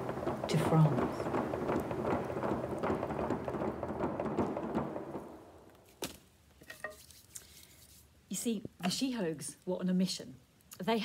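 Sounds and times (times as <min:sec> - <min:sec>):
wood fire crackling: 0:00.0 - 0:09.7.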